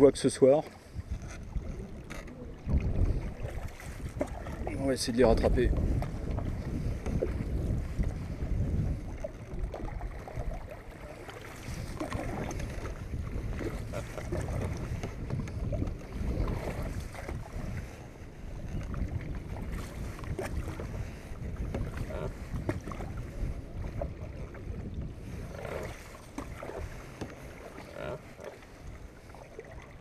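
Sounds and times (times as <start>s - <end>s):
canoe paddle strokes in water: 0.0s - 30.0s
wind rumble on microphone: 0.8s - 30.0s.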